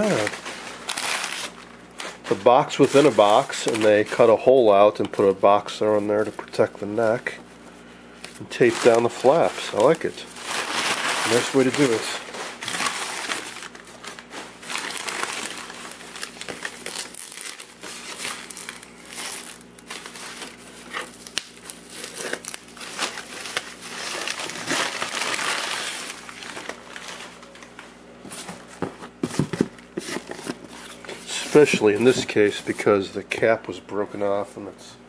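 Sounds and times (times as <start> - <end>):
packing material crinkling and rustling: 0.0 - 33.0.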